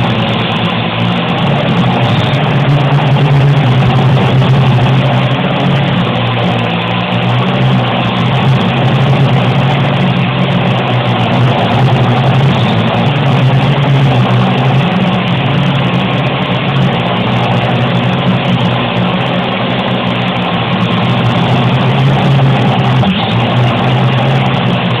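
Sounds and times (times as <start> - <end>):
quadcopter rotors buzzing: 0.0 - 25.0.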